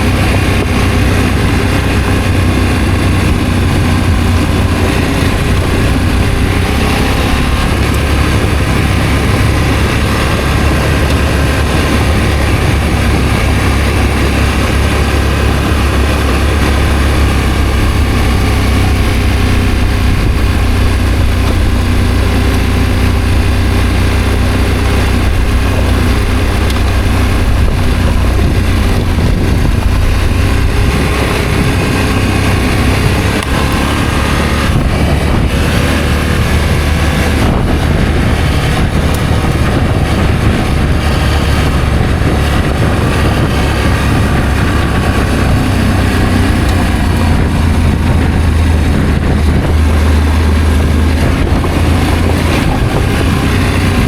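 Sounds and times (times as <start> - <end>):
motorcycle engine running: 0.0 - 54.0
wind rush over microphone: 0.0 - 54.0.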